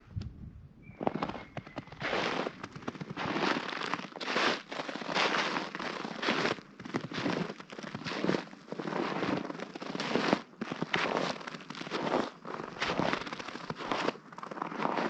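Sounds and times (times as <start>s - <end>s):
footsteps crunching in snow: 1.0s - 15.0s.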